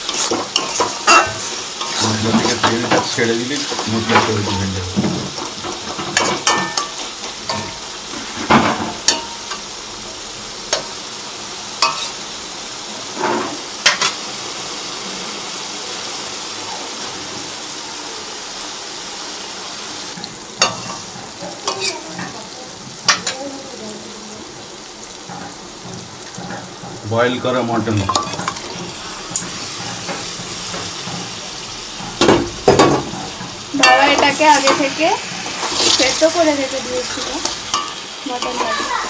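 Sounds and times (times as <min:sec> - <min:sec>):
spices sizzling in a pan: 0:00.0 - 0:39.0.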